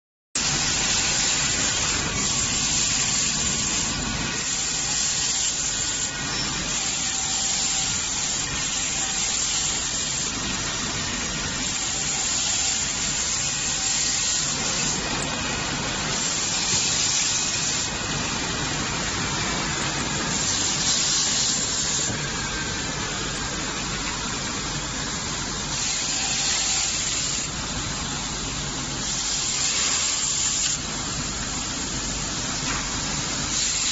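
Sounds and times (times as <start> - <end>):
sanding machine hissing: 0.4 - 23.4, 24.9 - 28.2, 28.8 - 31.1, 32.6 - 33.9.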